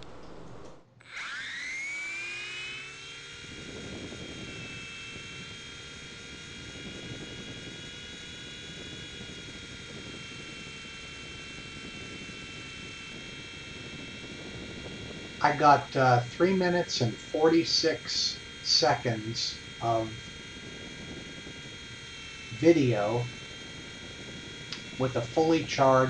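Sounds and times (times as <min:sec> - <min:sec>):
electric motors whining: 0:00.2 - 0:26.0.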